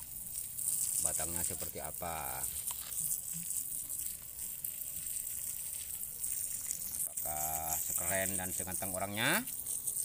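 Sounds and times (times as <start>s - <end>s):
hose water jet hissing: 0.0s - 10.0s.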